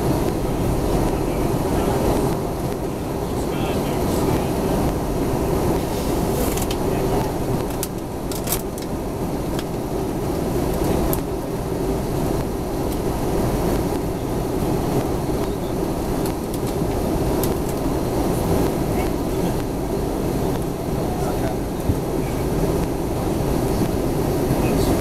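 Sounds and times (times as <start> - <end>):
jet engine and airflow cabin rush: 0.0 - 25.0.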